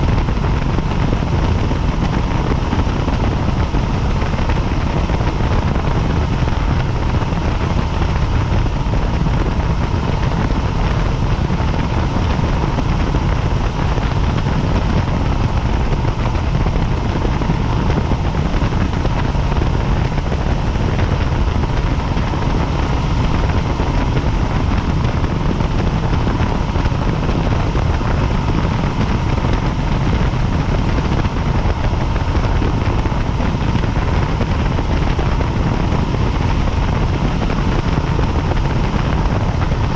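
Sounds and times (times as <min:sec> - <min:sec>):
faint steady whine: 0:00.0 - 0:39.9
helicopter rotor and engine drone: 0:00.0 - 0:39.9.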